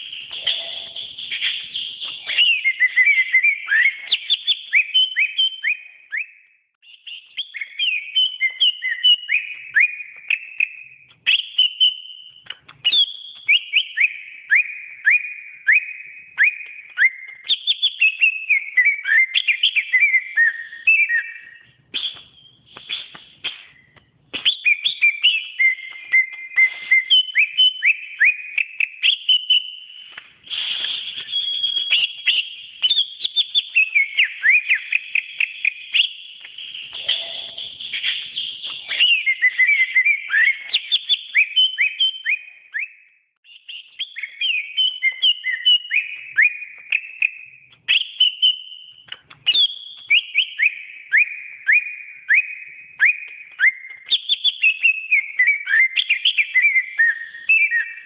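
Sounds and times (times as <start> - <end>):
bird singing whistled notes: 0.0 - 58.0.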